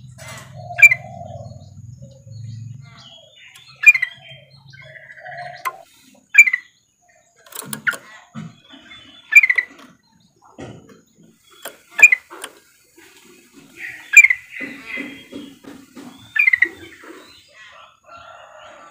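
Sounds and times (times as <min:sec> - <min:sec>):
bird call notes: 0:00.0 - 0:10.0, 0:11.3 - 0:17.9.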